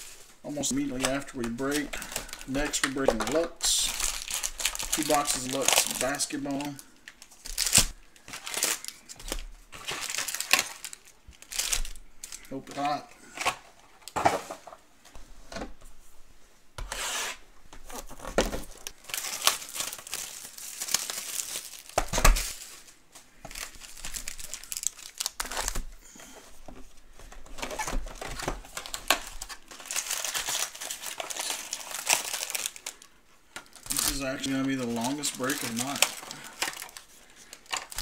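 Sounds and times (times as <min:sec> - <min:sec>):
plastic wrapping tearing and crinkling: 0:00.0 - 0:14.2, 0:16.9 - 0:26.0, 0:27.5 - 0:38.0.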